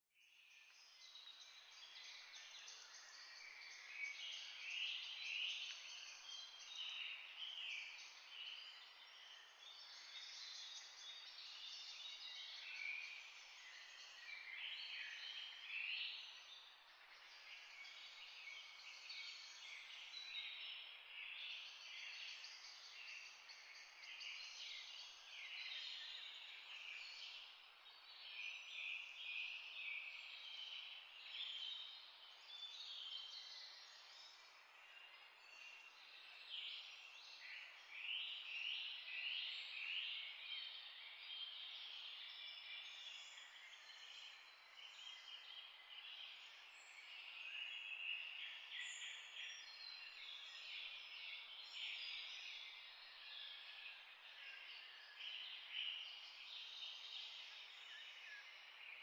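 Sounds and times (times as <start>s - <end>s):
chorus of small birds chirping: 0.3s - 59.0s.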